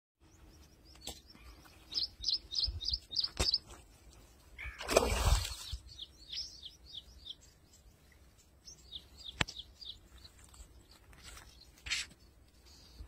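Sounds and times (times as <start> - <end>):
bird chirping: 0.2 - 13.0.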